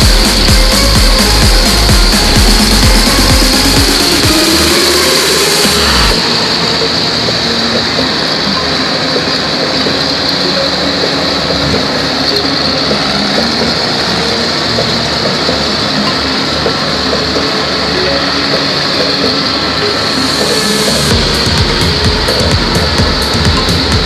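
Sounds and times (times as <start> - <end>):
clatter of tracks and tiller: 0.0 - 24.0
tractor engine running under load: 0.0 - 24.0.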